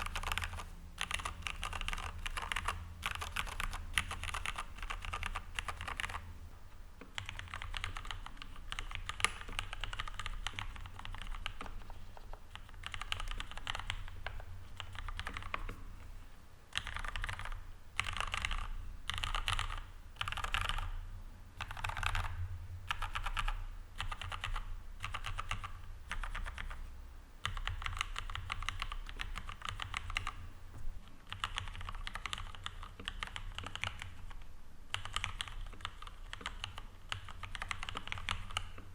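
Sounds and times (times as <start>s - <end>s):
mechanical keyboard typing: 0.0s - 6.3s, 7.0s - 15.8s, 16.7s - 21.0s, 21.6s - 26.8s, 27.4s - 30.4s, 31.2s - 38.8s.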